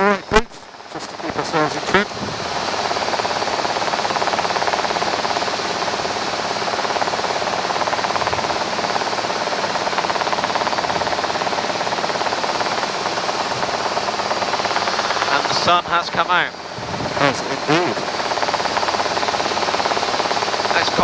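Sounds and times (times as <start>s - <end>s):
helicopter cabin noise: 0.0s - 21.0s.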